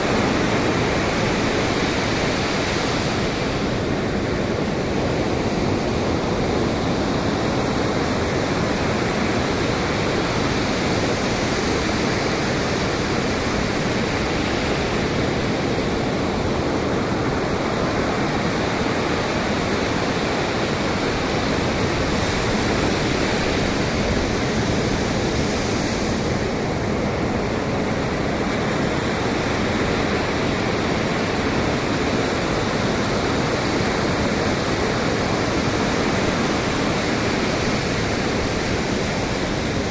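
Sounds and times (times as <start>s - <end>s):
ocean surf roar: 0.0s - 39.9s
wind: 0.0s - 39.9s.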